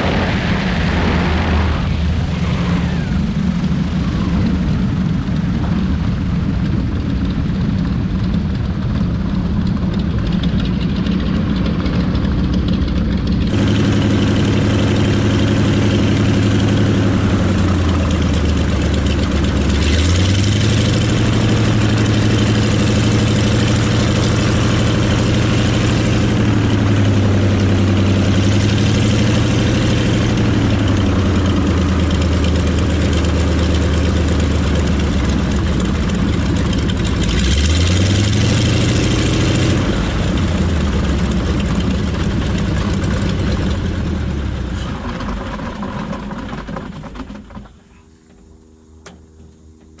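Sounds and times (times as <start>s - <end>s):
radial aircraft engine idling: 0.0s - 50.0s.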